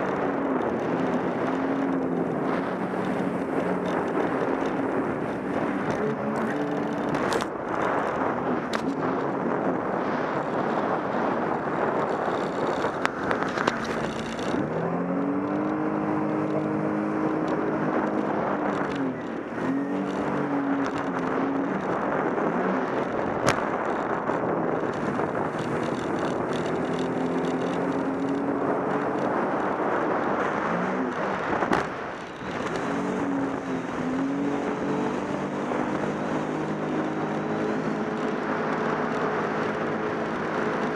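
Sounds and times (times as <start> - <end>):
personal watercraft engine running: 0.0 - 40.9.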